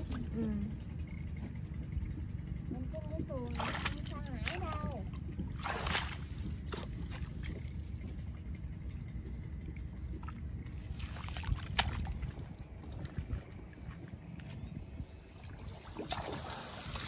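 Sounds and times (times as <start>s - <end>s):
water splashing around boat: 0.0s - 0.7s, 2.3s - 17.0s
steady low rumble: 0.0s - 17.0s.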